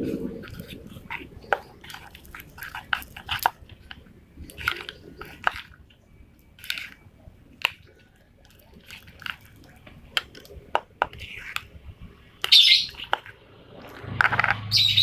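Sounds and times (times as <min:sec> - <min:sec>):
slime squelching and clicking: 0:00.4 - 0:14.7.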